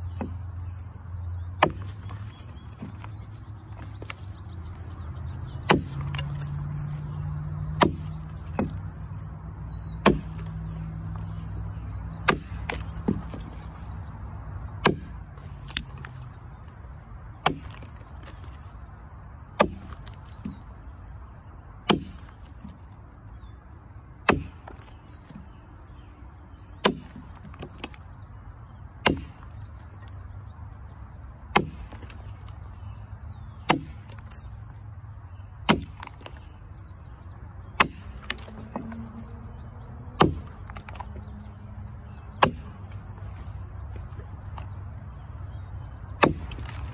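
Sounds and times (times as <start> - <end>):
axe chopping log: 0.0 - 0.9, 1.5 - 16.8, 17.4 - 20.7, 21.8 - 22.9, 24.2 - 26.1, 26.7 - 28.2, 29.0 - 30.2, 31.5 - 34.6, 35.6 - 36.8, 37.6 - 46.9.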